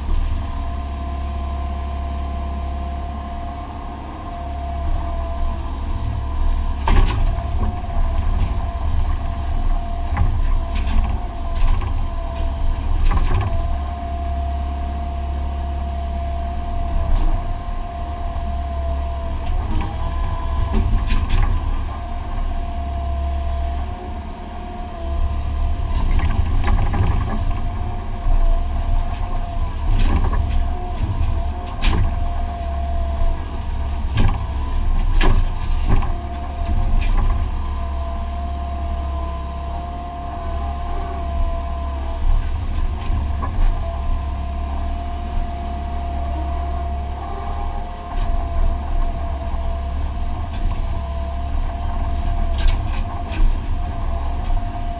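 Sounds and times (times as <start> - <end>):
excavator engine and hydraulics: 0.0 - 54.9.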